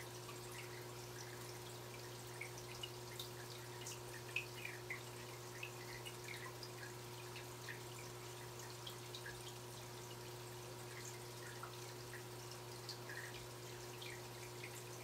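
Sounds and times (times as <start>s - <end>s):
aquarium water dripping and bubbling: 0.0s - 15.0s.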